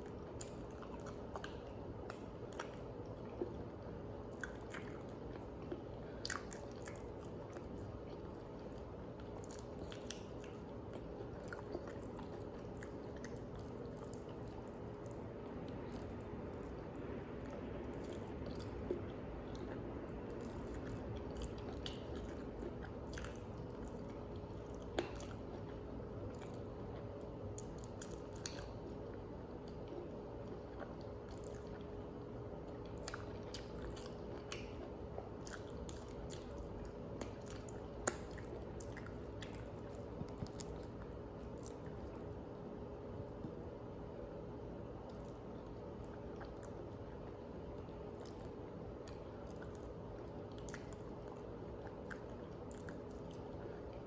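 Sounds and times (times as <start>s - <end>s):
person chewing and crunching food: 0.0s - 42.6s, 44.9s - 54.0s.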